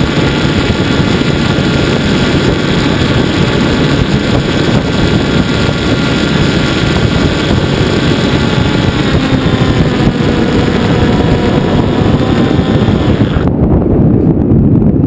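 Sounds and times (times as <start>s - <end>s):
model airplane motor and propeller: 0.0s - 14.4s
wind noise on microphone: 0.0s - 15.0s.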